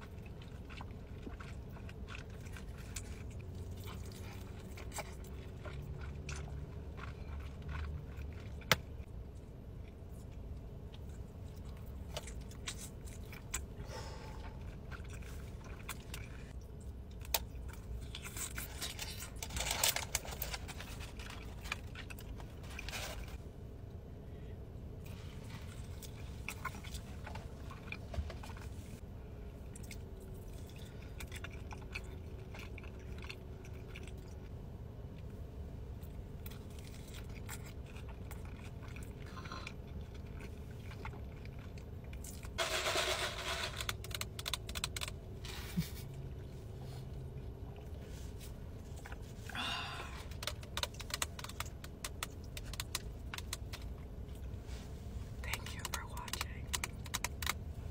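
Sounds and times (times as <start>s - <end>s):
chewing food: 0.0s - 24.0s, 25.1s - 57.9s
low background hum: 0.0s - 57.9s.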